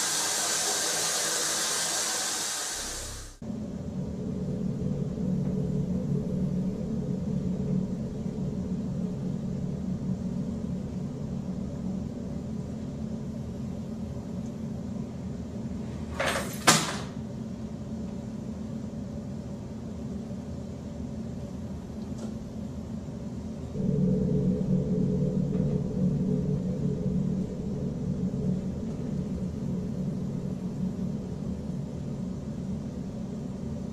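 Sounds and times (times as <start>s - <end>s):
steady low hum: 2.8s - 33.9s.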